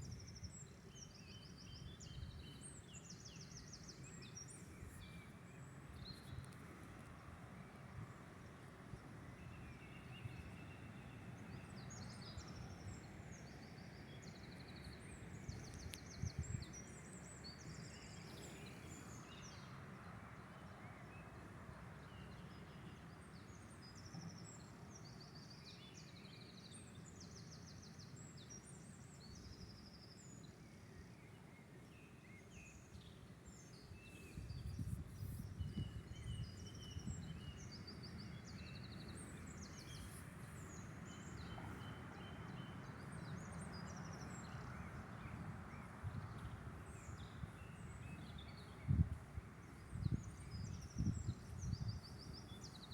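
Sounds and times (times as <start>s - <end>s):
songbirds singing: 0.0s - 52.9s.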